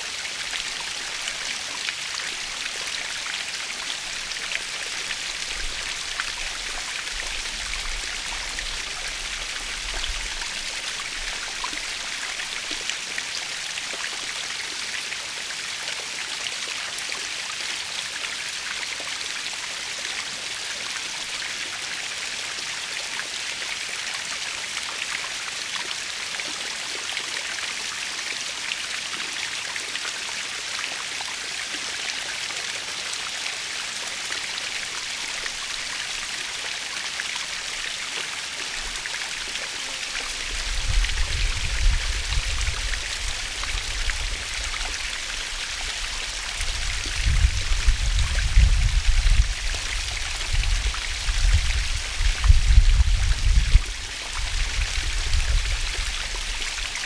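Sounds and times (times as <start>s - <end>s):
waterfall hiss with splashes: 0.0s - 57.0s.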